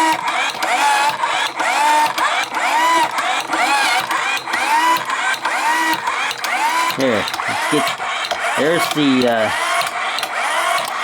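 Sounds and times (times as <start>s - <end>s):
washing machine whine: 0.0s - 11.0s.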